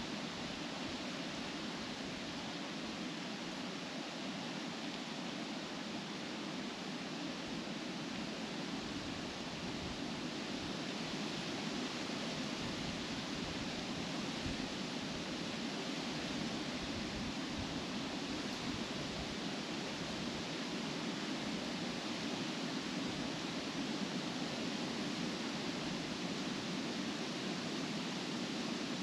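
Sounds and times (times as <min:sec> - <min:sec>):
wind rustling tree leaves: 0:00.0 - 0:29.0.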